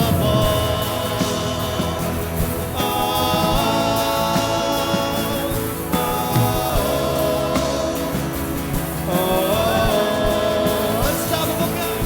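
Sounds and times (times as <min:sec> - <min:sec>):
drums: 0:00.0 - 0:12.0
worship band playing: 0:00.0 - 0:12.0.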